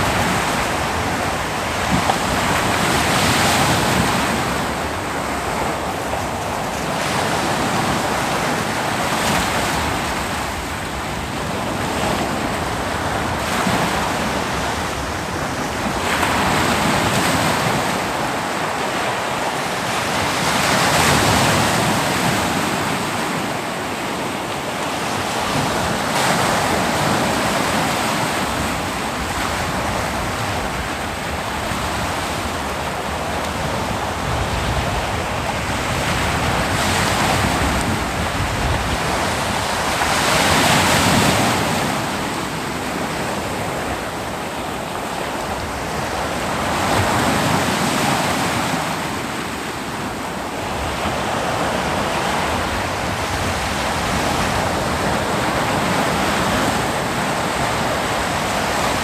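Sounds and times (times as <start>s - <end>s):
ocean surf breaking on beach: 0.0s - 59.0s
wind on microphone: 0.0s - 59.0s.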